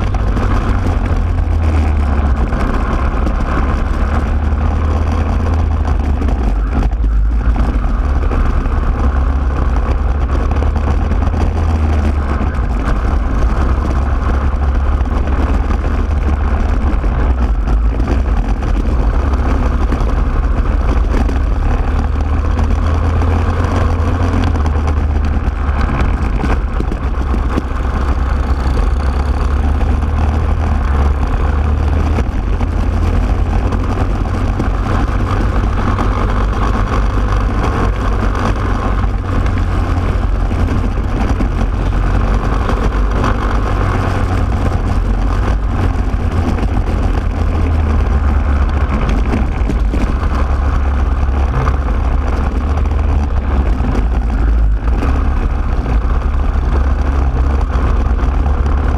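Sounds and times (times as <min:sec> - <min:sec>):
deep rumble: 0:00.0 - 0:58.9
kart engine running at speed: 0:00.0 - 0:58.9.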